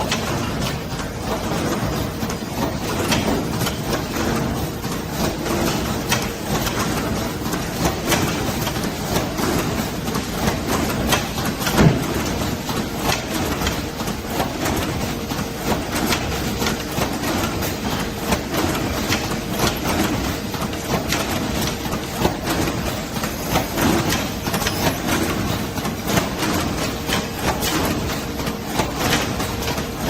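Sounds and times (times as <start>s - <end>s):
packing machine clattering: 0.0s - 30.0s.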